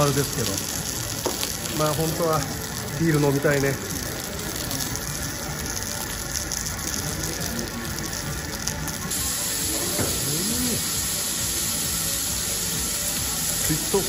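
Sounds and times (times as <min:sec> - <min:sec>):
faint background music: 0:00.0 - 0:14.0
food sizzling on hot plates: 0:00.0 - 0:14.0.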